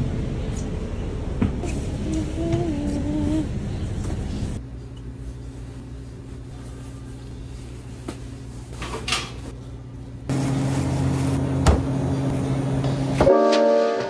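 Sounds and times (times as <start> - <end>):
low machine hum: 0.0 - 13.3.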